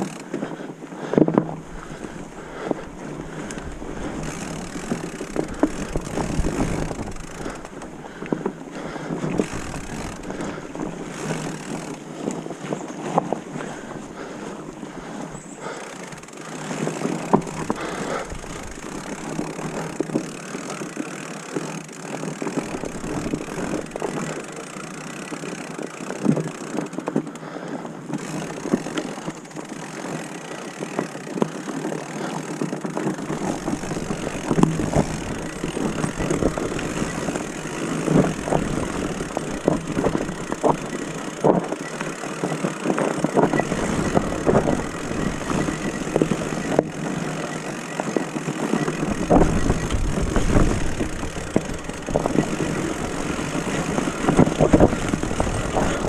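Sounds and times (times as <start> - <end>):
bike knocking and rattling: 0.0 - 56.0
bike tyres rolling over leaves: 0.0 - 56.0.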